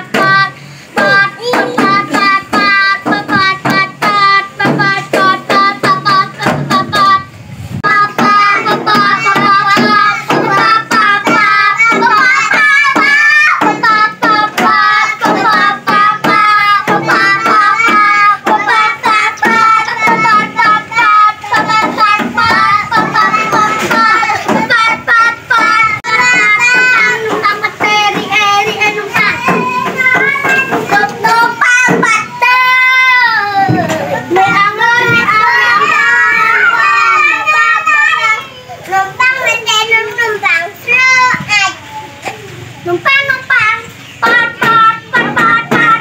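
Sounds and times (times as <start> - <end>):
children singing: 0.0 - 46.0.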